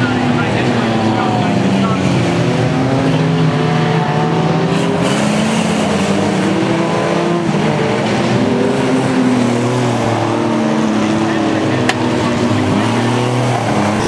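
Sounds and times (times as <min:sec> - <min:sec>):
race car engines accelerating: 0:00.0 - 0:14.0.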